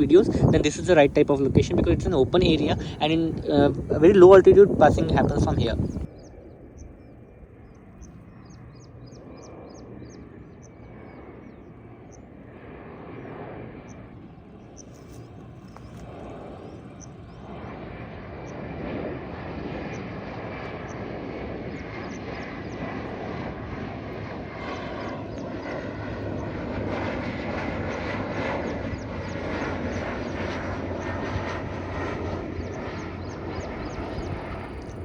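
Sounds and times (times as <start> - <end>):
airliner engines rumbling overhead: 0.0 - 35.0.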